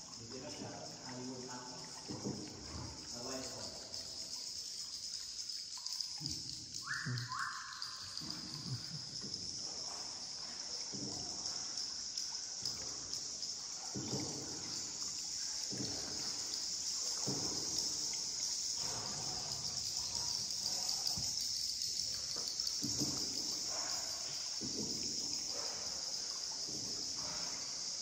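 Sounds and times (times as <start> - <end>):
paddle splashing in river water: 0.0 - 28.0.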